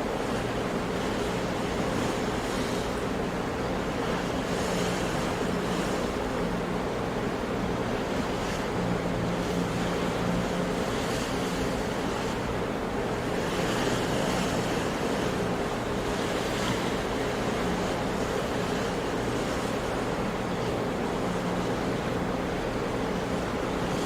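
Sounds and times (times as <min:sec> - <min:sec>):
ocean waves washing in: 0:00.0 - 0:24.0.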